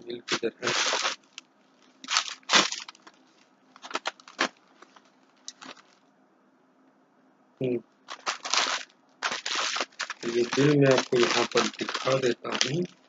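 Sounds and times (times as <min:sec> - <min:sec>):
packaging crinkling: 0:00.3 - 0:06.0, 0:08.1 - 0:13.0.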